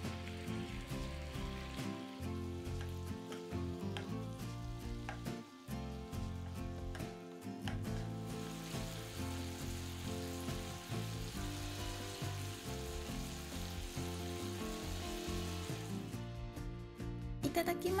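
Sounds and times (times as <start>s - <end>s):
sauce bubbling: 0.0s - 7.0s, 7.7s - 16.2s
skewers sizzling in a frying pan: 0.0s - 16.4s
background music: 0.0s - 18.0s.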